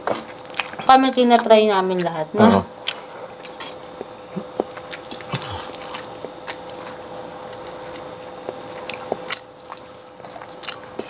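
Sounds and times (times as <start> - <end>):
person chewing food: 0.0 - 2.1, 2.7 - 11.0
faint steady hum: 0.0 - 11.0.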